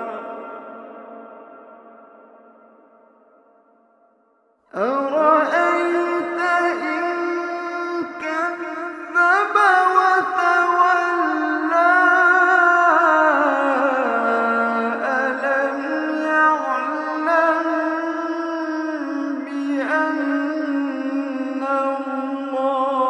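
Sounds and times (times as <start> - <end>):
man reciting melodically: 0.0 - 1.5, 4.7 - 23.0.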